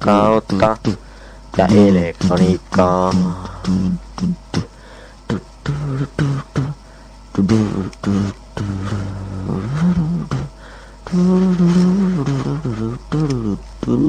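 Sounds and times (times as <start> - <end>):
person singing low held notes: 0.0 - 14.0.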